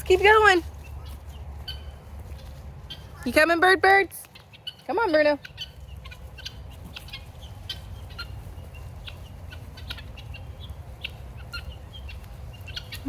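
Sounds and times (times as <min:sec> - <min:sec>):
guinea fowl chirping and clucking: 0:00.0 - 0:13.0
steady low rumble: 0:00.0 - 0:13.0.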